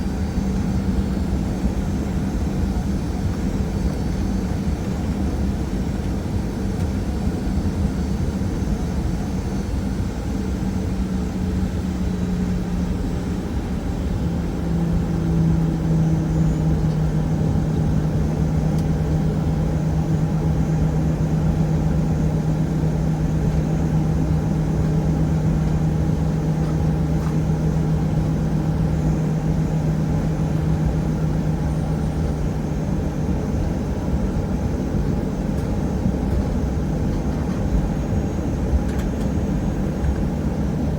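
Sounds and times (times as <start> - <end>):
aircraft engines rumbling in cabin: 0.0 - 40.9.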